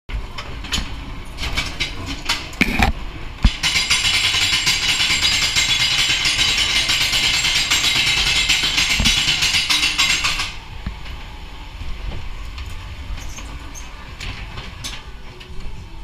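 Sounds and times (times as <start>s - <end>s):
ride car clattering and knocking: 0.2s - 11.2s, 12.0s - 15.8s.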